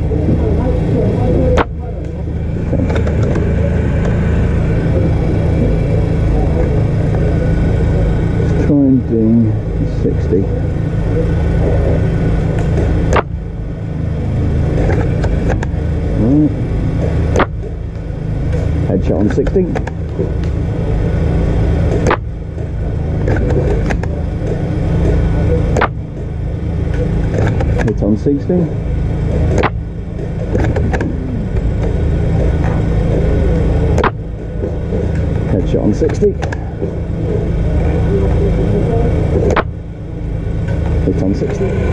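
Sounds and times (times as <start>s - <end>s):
low engine-like drone: 0.0s - 41.9s
low rumble: 0.0s - 41.9s.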